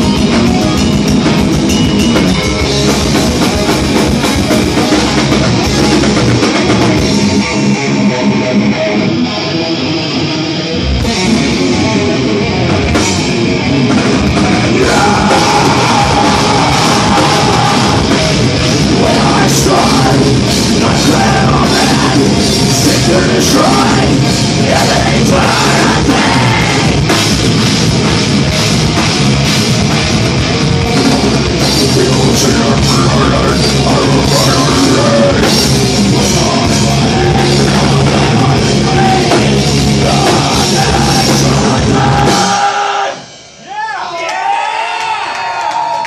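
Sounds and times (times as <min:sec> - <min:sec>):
drum kit: 0:00.0 - 0:09.2, 0:10.8 - 0:44.1
distorted electric guitar: 0:00.0 - 0:43.6
heavy metal band playing live: 0:00.0 - 0:44.1.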